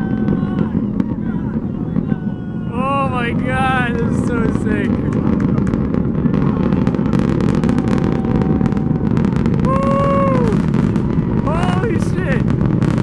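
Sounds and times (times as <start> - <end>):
spectator whooping: 0.0 - 10.7
rocket engines rumbling: 0.0 - 13.0.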